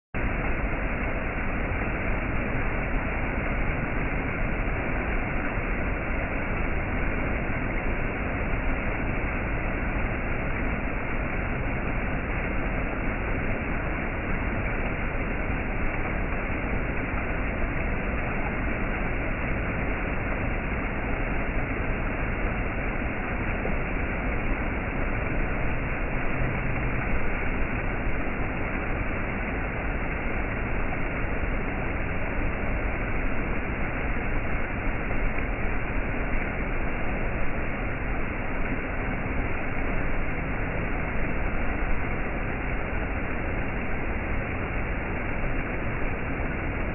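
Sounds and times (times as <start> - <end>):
waterfall rushing: 0.2 - 46.9.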